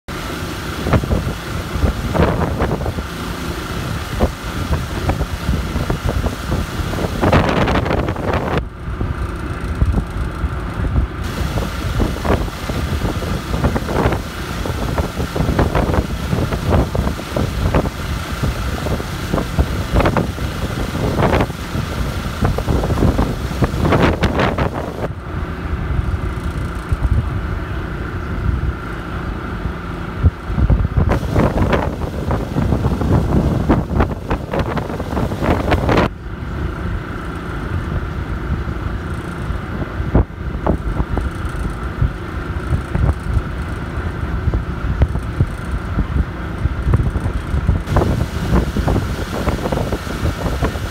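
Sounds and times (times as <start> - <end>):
motorboat engine humming: 0.1 - 50.9
wind buffeting microphone: 0.2 - 25.2, 29.6 - 50.9.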